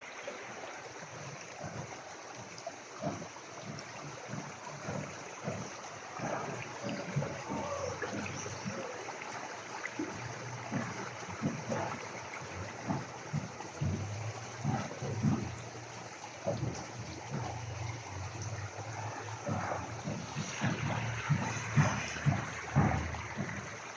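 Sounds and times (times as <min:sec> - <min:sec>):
creek water running over rocks: 0:00.0 - 0:23.9
small irregular splashes: 0:00.0 - 0:23.9.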